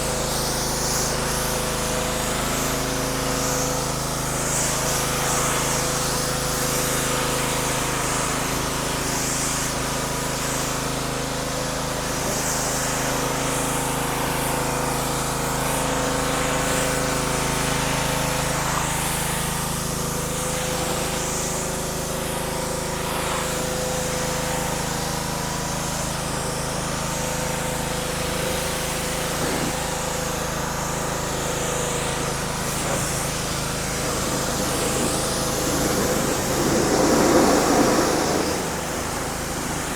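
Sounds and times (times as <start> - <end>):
water spray hiss: 0.0 - 10.8, 11.7 - 39.9
pressure washer engine droning: 0.0 - 39.9.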